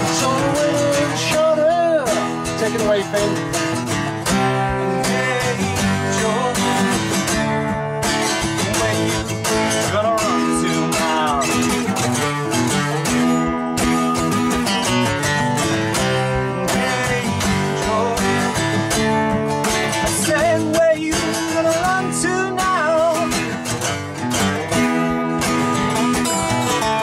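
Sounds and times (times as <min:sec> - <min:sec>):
man singing: 0:00.0 - 0:13.2, 0:14.4 - 0:25.5
acoustic guitars strummed: 0:00.0 - 0:27.0.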